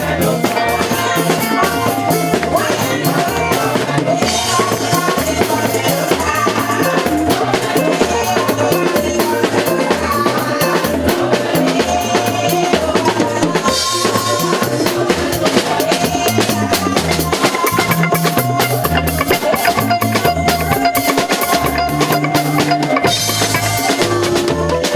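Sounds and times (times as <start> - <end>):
bass line: 0.0 - 24.9
drum kit beat: 0.0 - 24.9
sustained melody notes: 0.0 - 24.9.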